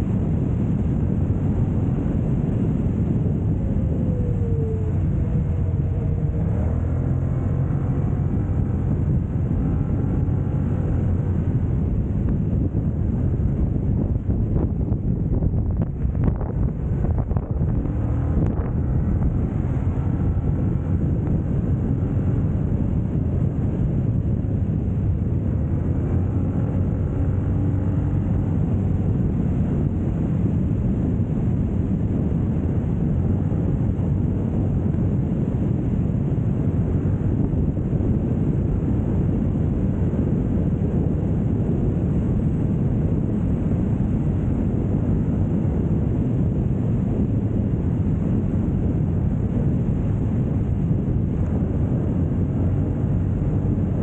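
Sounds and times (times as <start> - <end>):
motorcycle engine hum: 0.0 - 54.0
wind rushing over microphone: 0.0 - 54.0.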